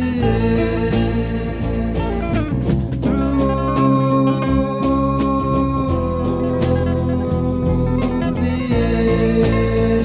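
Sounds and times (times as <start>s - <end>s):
psychedelic rock band playing: 0.0s - 10.0s.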